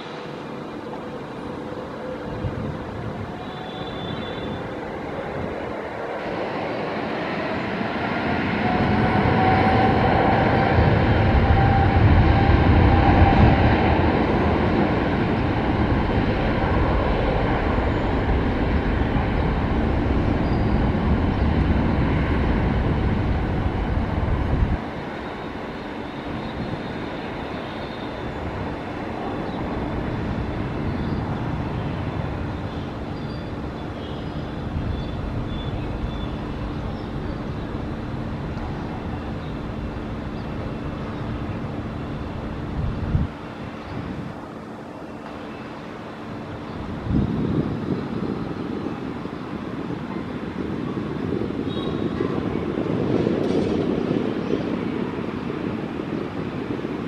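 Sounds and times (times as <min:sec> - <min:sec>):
faint engine whine: 0:00.0 - 0:57.0
jet engines roaring: 0:00.0 - 0:57.0.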